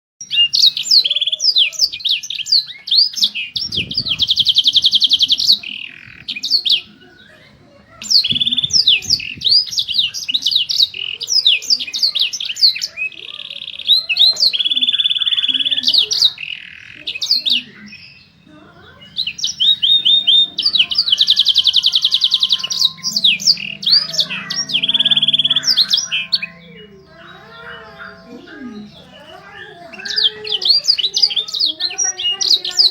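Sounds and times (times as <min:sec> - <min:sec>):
canary singing: 0:00.2 - 0:32.9.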